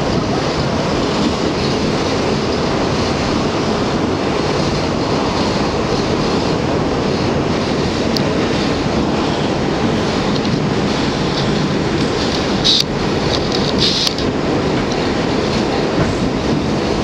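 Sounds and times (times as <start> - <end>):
subway wheels on rails: 0.0 - 17.0.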